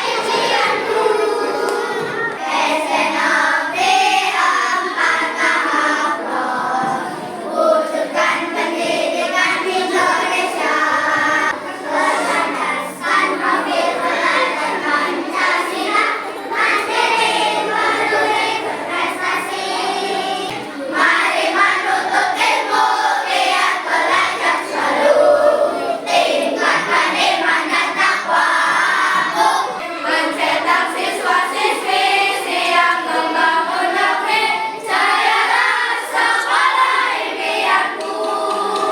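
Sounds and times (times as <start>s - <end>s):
children's choir singing a march: 0.0s - 38.9s.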